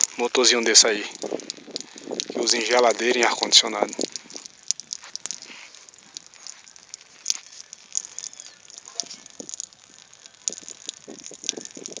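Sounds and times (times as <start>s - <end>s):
water and air sputtering from pipe: 0.0s - 12.0s
water gurgling: 0.0s - 12.0s.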